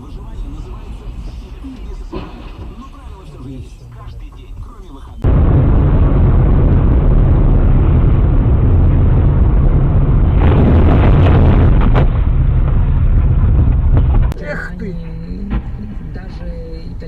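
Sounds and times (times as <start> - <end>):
distorted vehicle rumble: 0.0 - 17.0.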